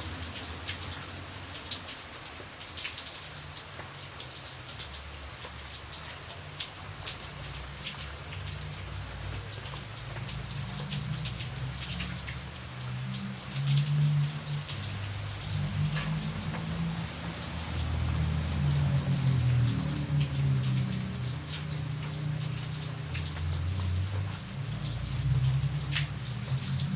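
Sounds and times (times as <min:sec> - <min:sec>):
rain drops ticking: 0:00.0 - 0:26.9
rain hiss: 0:00.0 - 0:26.9.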